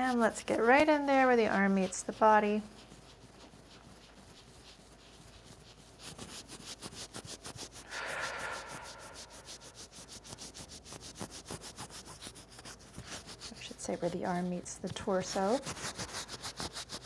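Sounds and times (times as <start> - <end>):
fingertips rubbing skin: 0.0 - 17.0.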